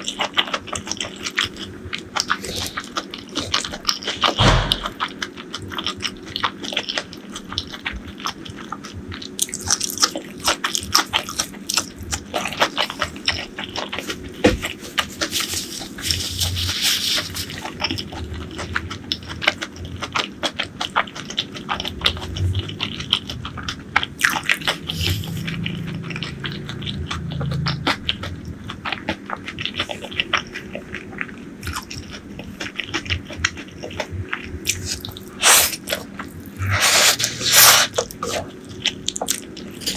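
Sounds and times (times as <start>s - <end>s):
crunchy chewing: 0.0s - 39.9s
wet crackling mouth sounds: 0.0s - 39.9s.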